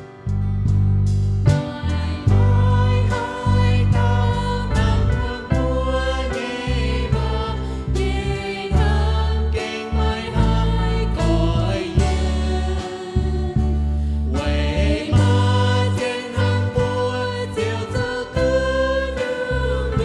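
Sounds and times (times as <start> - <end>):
instrumental accompaniment with bass: 0.0 - 20.0
hymn singing: 1.6 - 20.0.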